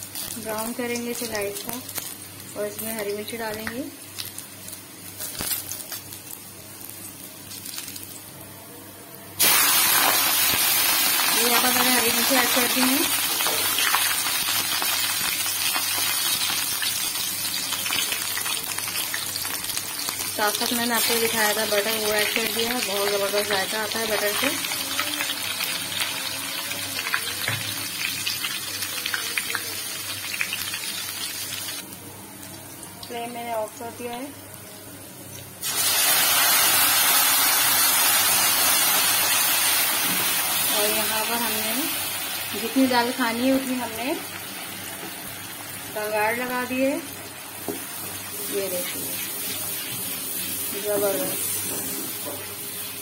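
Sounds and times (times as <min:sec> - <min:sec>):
garlic sizzling in oil: 0:00.0 - 0:08.5, 0:09.3 - 0:53.0
loud burst of sizzling: 0:09.3 - 0:53.0.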